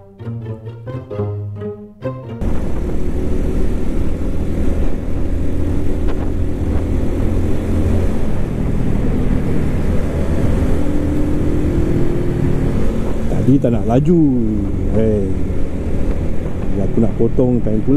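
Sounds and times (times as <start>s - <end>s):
motorcycle engine running: 2.4s - 17.3s
wind rumble on microphone: 2.4s - 17.9s.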